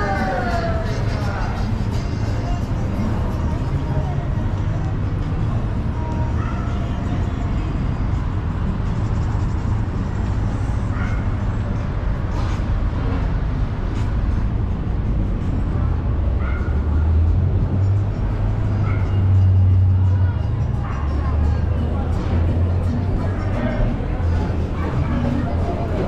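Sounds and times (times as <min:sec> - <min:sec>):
faint voices: 0:00.0 - 0:26.0
low rumble of traffic: 0:00.0 - 0:26.0.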